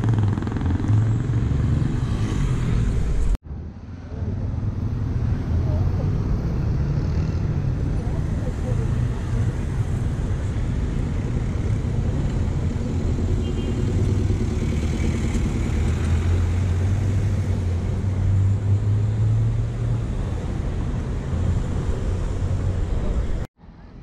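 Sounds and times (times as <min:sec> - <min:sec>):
motorcycles passing: 0:00.0 - 0:03.4, 0:04.7 - 0:23.5
cars passing: 0:00.0 - 0:24.0
city buses: 0:00.0 - 0:24.0.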